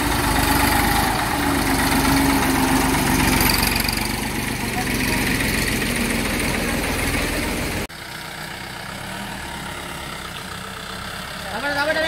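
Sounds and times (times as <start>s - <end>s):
jeep engine idling: 0.0s - 12.0s
tractor engine running loud: 0.0s - 12.0s.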